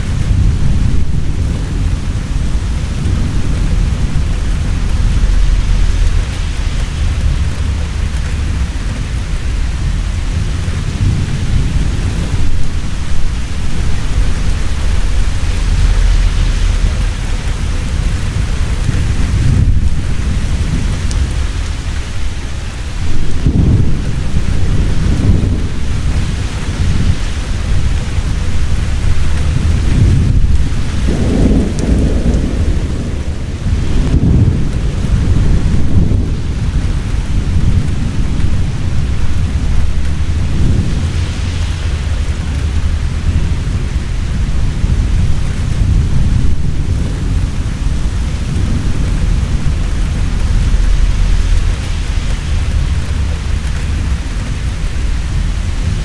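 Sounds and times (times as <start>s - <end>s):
heavy rain: 0.0s - 56.0s
thunder rumbling: 0.0s - 56.0s.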